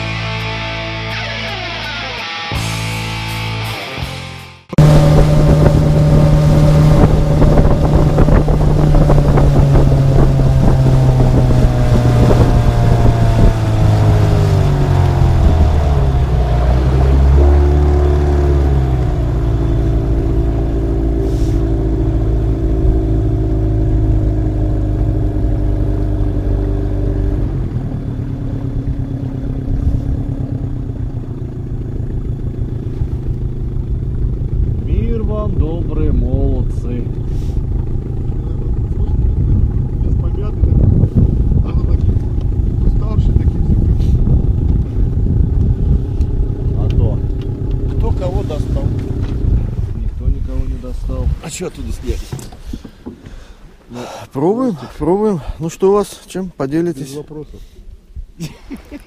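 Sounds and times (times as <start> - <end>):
outboard motor running: 4.7 - 59.0.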